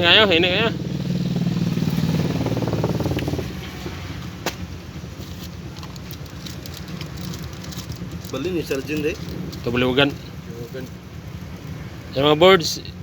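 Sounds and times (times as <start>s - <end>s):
low traffic rumble: 0.0s - 13.0s
motor vehicle running: 0.0s - 13.0s.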